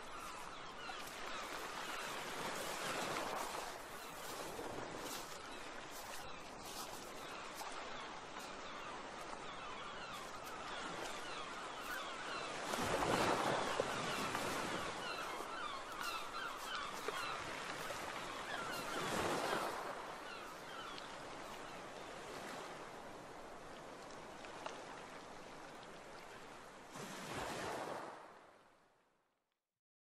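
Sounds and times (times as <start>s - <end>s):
ocean waves washing onto shore: 0.0s - 28.5s.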